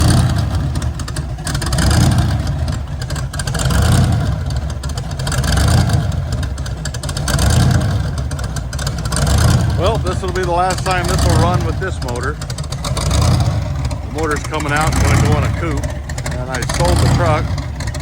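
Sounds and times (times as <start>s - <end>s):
engine running with choppy beat: 0.0s - 18.0s.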